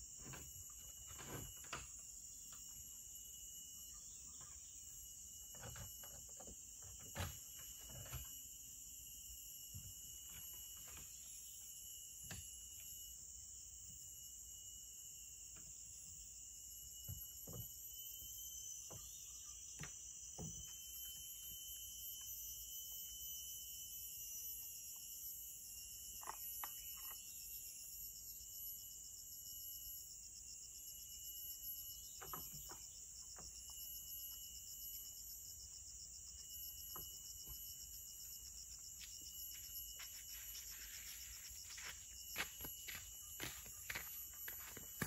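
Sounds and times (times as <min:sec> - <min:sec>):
insects chorus with shrill tones: 0:00.0 - 0:45.0.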